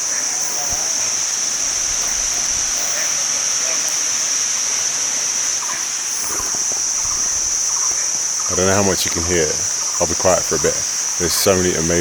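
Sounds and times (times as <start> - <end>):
cicadas droning: 0.0 - 12.0
faint bird chirps: 0.0 - 12.0.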